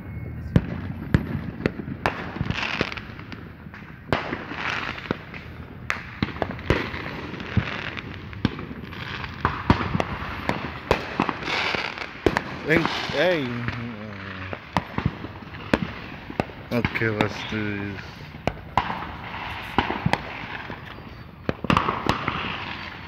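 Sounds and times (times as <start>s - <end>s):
fireworks banging: 0.0s - 23.0s
fireworks crackling: 0.0s - 23.0s.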